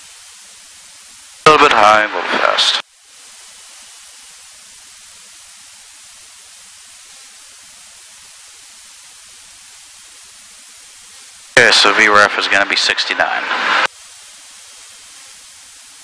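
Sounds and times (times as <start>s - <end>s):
intercom hiss: 1.3s - 16.0s.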